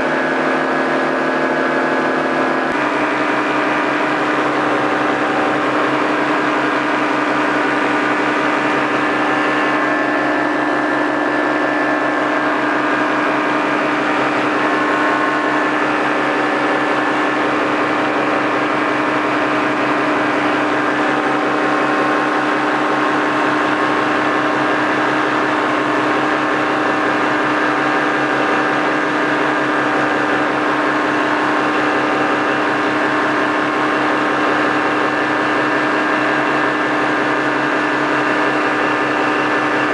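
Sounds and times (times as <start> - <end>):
paramotor engine running: 0.0 - 39.9.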